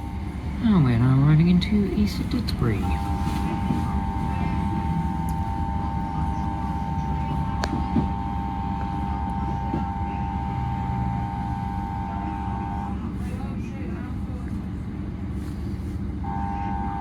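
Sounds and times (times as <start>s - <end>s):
train running gear rumble: 0.0s - 16.8s.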